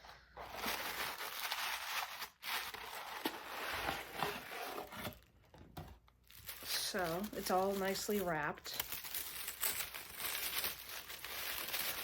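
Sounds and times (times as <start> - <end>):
paper and wrapping rustling: 0.0 - 12.0.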